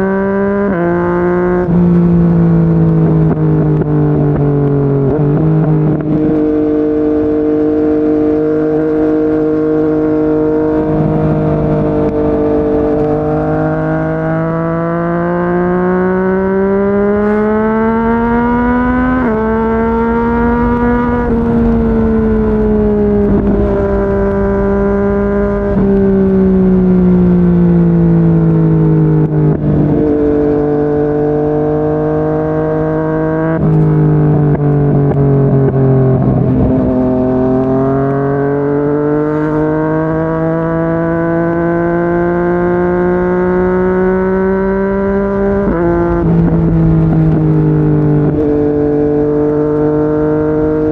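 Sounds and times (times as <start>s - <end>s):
motorcycle engine cruising: 0.0s - 50.9s.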